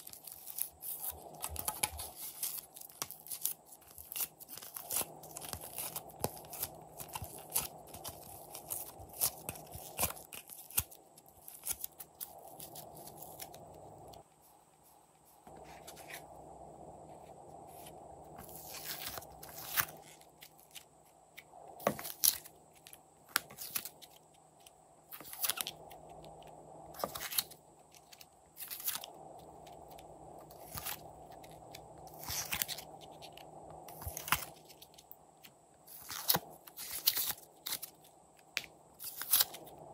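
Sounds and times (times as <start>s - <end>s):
soft steady background noise: 0.0s - 39.9s.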